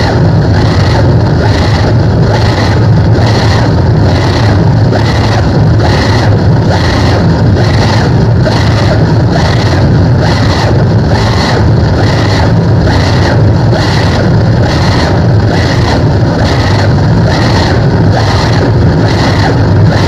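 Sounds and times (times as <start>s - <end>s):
distorted electric guitar drone: 0.0s - 20.0s.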